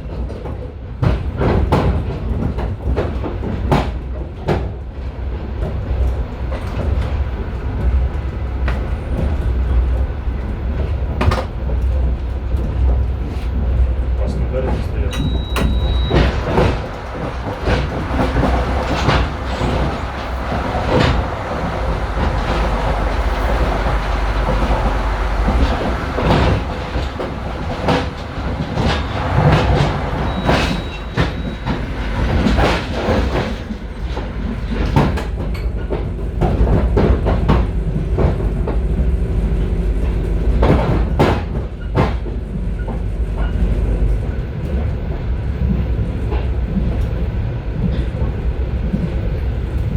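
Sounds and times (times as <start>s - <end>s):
wheels clattering over rail joints: 0.0s - 39.2s, 39.8s - 49.2s
train rumble: 0.0s - 49.9s.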